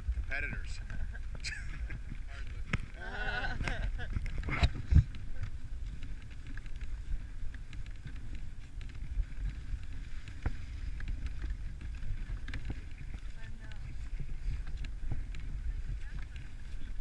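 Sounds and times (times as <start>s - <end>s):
sled runners hissing over snow: 0.0s - 17.0s
wind rumble on microphone: 0.0s - 17.0s.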